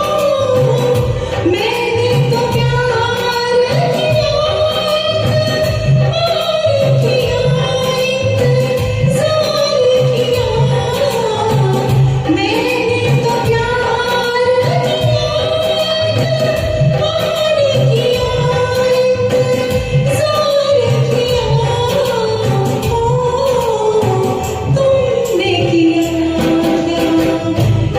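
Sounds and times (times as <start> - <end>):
backing track with bass and percussion: 0.0 - 27.9
woman singing: 0.0 - 27.9.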